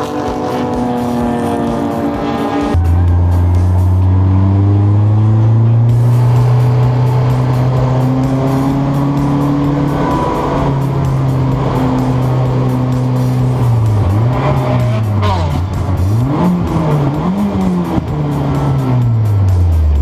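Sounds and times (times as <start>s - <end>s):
race car engine running hard: 0.0s - 20.0s.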